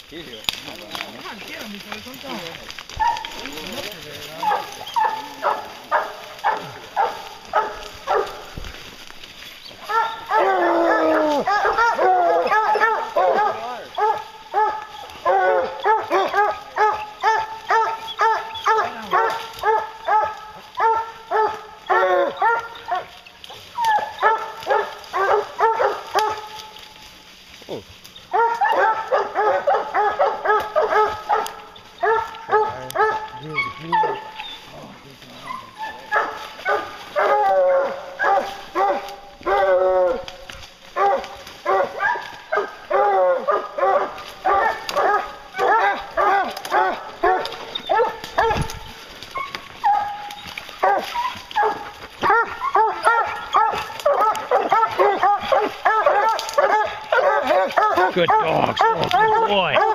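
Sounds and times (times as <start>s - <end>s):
hound barking: 0.1s - 59.9s.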